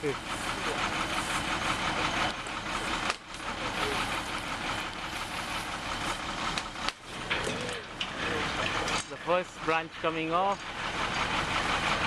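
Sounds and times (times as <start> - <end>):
machinery engine running: 0.0 - 12.0.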